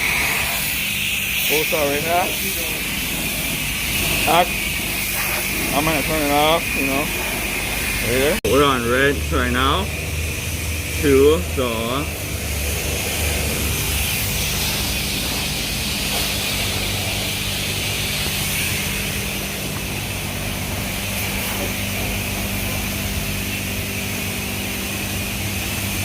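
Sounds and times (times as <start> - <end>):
pressure washer spraying water: 0.0 - 26.0
pump humming: 0.0 - 26.0.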